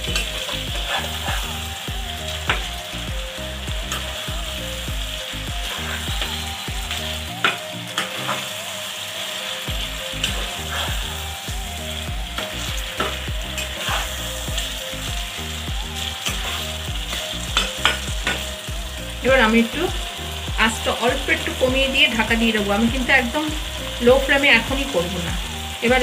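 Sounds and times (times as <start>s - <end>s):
chicken sizzling in a pan: 0.0s - 26.0s.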